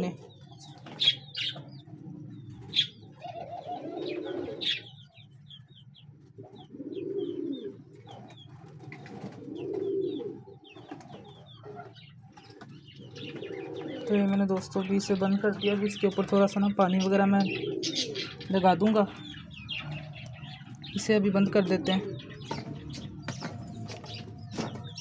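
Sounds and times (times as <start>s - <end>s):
pigeons cooing: 0.0s - 25.0s
small birds chirping: 0.0s - 25.0s.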